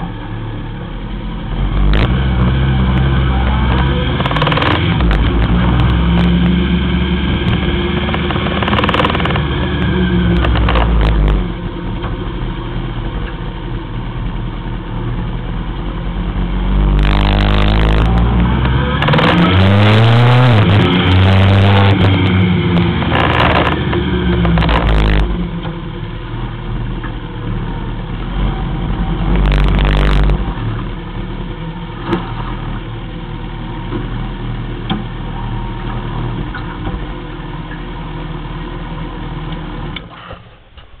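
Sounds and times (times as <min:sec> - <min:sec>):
motorcycle engine running: 0:00.0 - 0:33.4
wind and road noise: 0:00.0 - 0:41.0.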